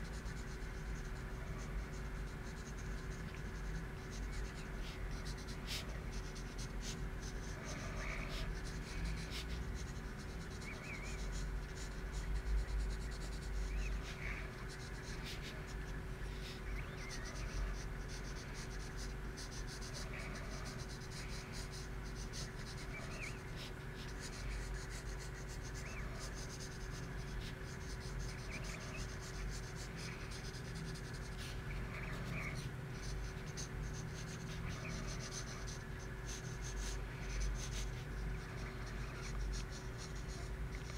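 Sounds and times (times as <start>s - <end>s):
pencil scratching on paper: 0.0s - 15.8s, 16.4s - 40.9s
steady low hum: 0.0s - 40.9s.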